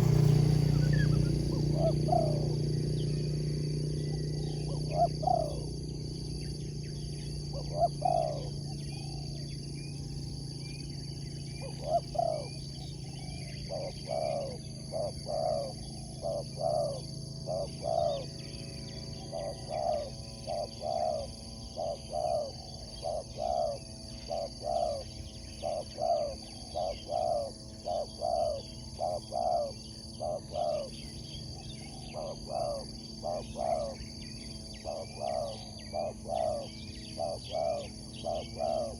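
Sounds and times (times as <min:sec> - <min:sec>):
dove cooing: 0:00.0 - 0:10.2, 0:11.5 - 0:38.9
high insect drone: 0:00.0 - 0:38.9.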